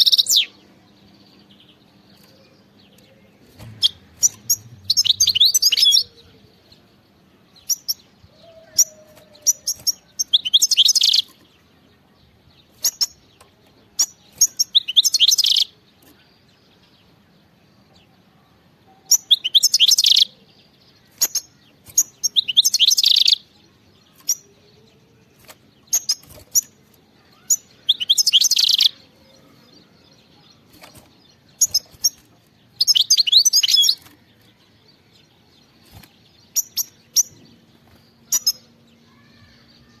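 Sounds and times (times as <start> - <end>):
goldfinch twittering song: 0.0 - 17.2, 19.0 - 40.0.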